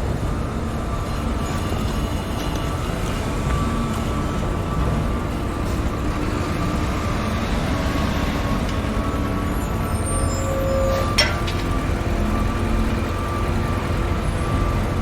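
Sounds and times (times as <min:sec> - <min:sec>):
construction machinery engine rumble: 0:00.0 - 0:15.0.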